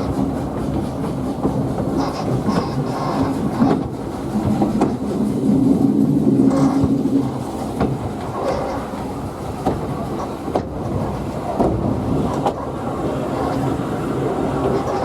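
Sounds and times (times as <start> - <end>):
train rumble and hum: 0.0 - 15.0.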